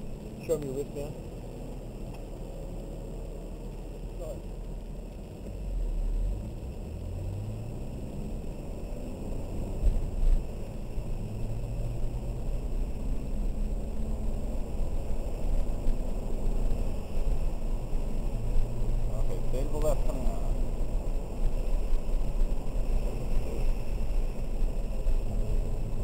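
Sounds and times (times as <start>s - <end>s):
car engine accelerating: 0.0s - 26.0s
road and tyre noise: 0.0s - 26.0s.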